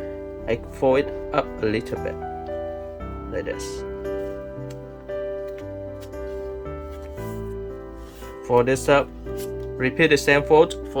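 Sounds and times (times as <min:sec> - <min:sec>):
soft sustained background music: 0:00.0 - 0:11.0.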